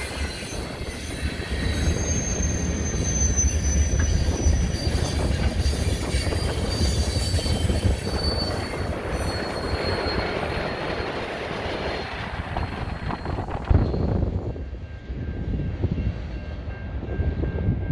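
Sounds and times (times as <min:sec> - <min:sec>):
high wheel squeal: 0:00.0 - 0:14.4
railcars rumbling past: 0:00.0 - 0:17.9.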